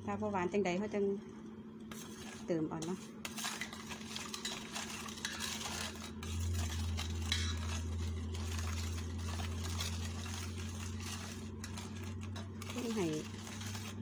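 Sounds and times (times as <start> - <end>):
low steady hum: 0.0 - 14.0
metal spoon stirring in metal bowl: 1.9 - 14.0.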